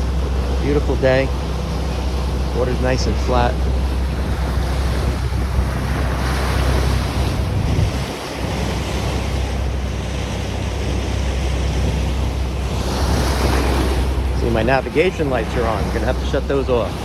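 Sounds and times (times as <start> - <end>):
boat engine drone: 0.0 - 17.0
water noise: 0.0 - 17.0
wind rushing over microphone: 0.0 - 17.0.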